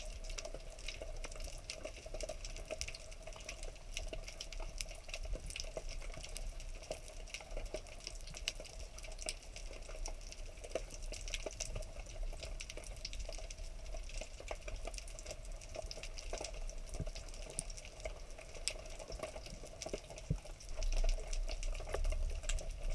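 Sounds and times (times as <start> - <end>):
underwater crackle of clicks: 0.0 - 22.9.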